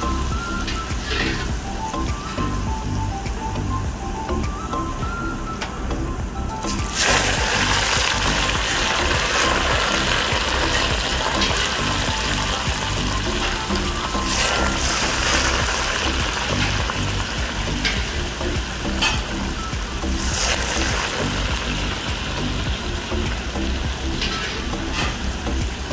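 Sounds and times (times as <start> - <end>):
seeds sizzling in hot oil: 0.0 - 3.6, 6.6 - 25.9
background music with steady beat: 0.0 - 25.9.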